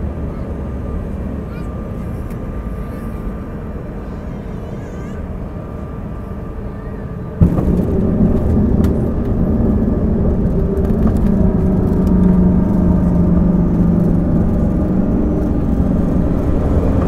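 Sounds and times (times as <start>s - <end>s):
jet cabin engine drone: 0.0s - 17.0s.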